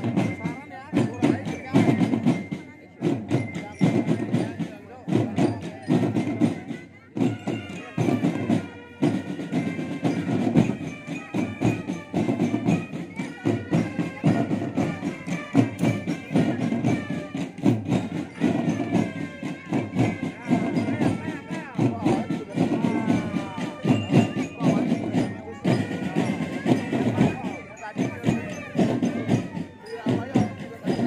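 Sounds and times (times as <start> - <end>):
marching band tune: 0.0 - 31.0
snare and bass drums beating: 0.0 - 31.0.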